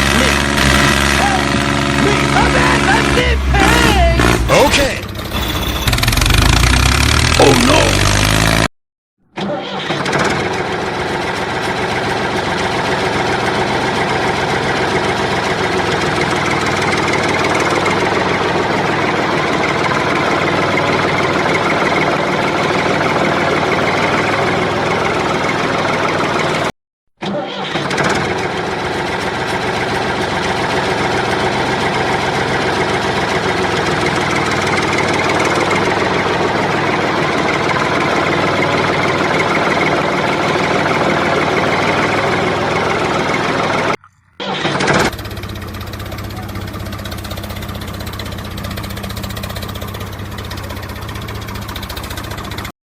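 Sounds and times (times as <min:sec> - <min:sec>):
engine running: 0:00.0 - 0:08.7, 0:09.4 - 0:26.7, 0:27.3 - 0:52.7.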